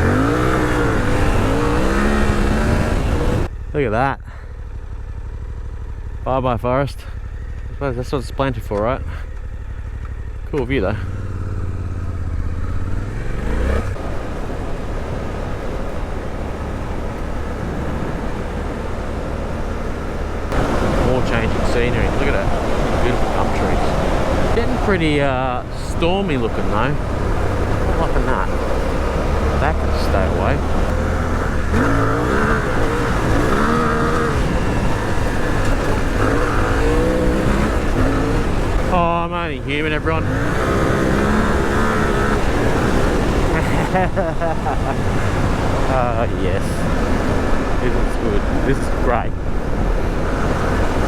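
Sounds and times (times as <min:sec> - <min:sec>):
motorcycle engine accelerating: 0:00.0 - 0:51.0
wind and riding noise: 0:00.0 - 0:51.0.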